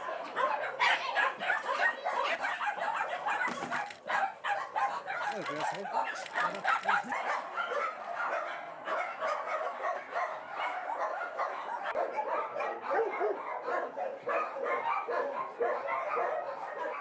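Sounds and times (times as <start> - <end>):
many dogs barking: 0.0 - 17.0.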